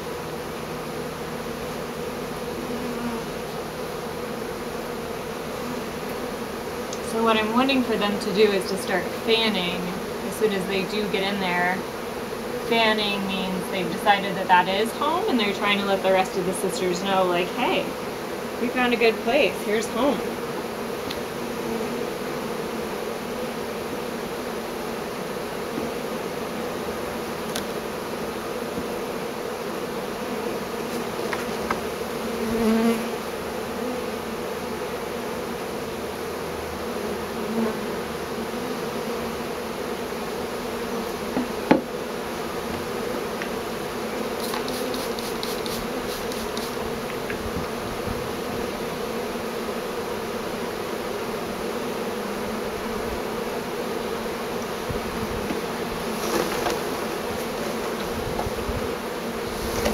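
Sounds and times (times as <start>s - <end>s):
bee swarm buzzing: 0.0s - 59.9s.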